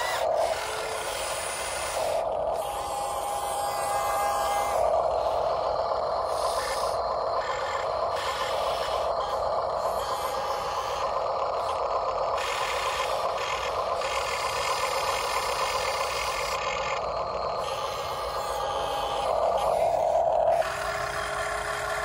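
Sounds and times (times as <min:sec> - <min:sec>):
model vehicle motors whirring: 0:00.0 - 0:22.0.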